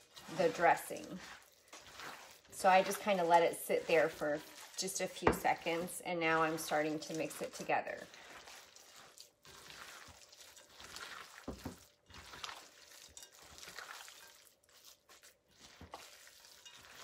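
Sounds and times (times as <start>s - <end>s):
hands squelching wet meat mixture: 0.0s - 17.0s.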